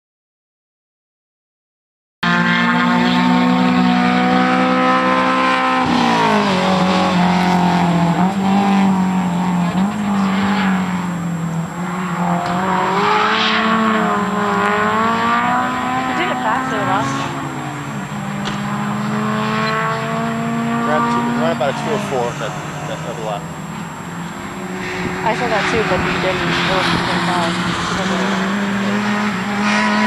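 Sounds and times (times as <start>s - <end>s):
car engine revving: 2.2s - 30.0s.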